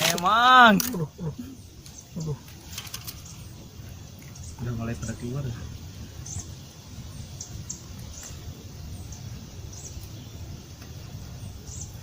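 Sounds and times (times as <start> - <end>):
small bird chirping: 0.2 - 12.0.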